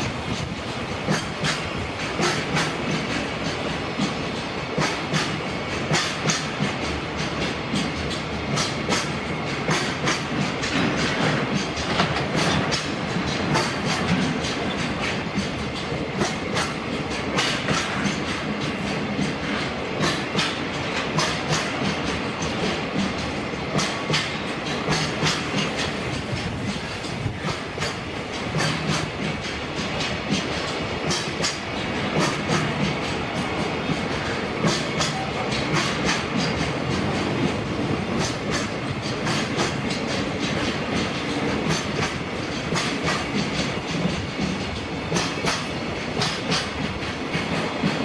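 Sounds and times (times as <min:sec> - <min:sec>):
wheels clacking over rail joints: 0:00.0 - 0:48.0.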